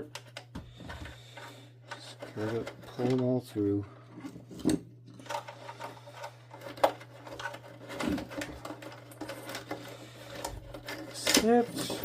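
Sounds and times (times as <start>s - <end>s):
wiring scraping through plastic: 0.2s - 12.0s.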